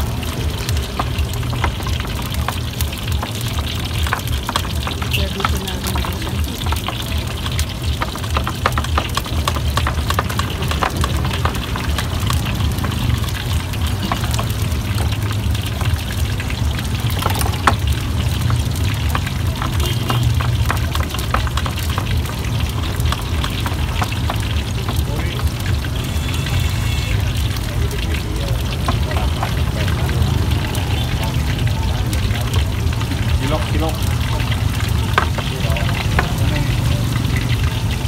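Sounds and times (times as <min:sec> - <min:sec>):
tofu sizzling in hot oil: 0:00.0 - 0:38.0.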